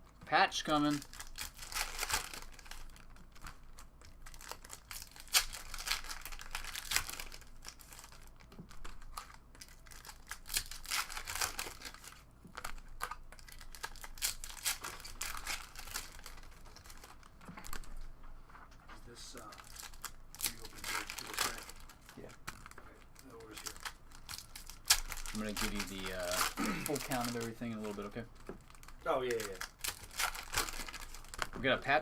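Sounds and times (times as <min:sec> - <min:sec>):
card wrappers crinkling and tearing: 0:00.0 - 0:18.0, 0:19.1 - 0:32.0.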